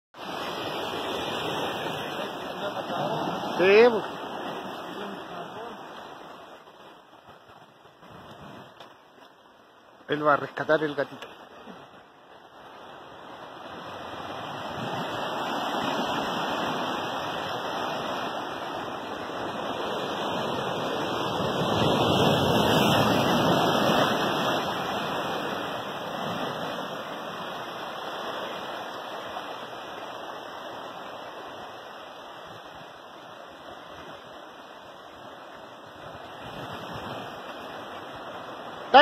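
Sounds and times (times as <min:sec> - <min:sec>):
surf washing over rocks: 0:00.2 - 0:39.0.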